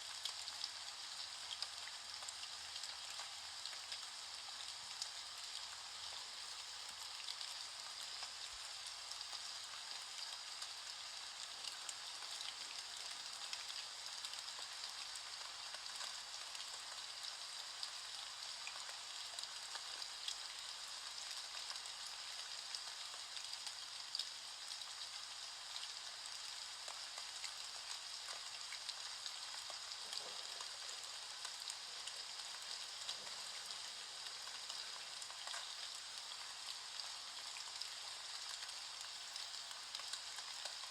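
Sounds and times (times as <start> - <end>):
rain falling: 0.1 - 40.9.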